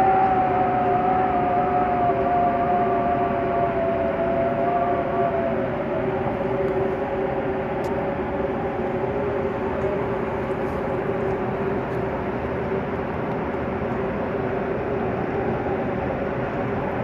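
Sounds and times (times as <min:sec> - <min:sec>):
low wind whistling: 0:00.0 - 0:17.0
strong wind against window: 0:00.0 - 0:17.0.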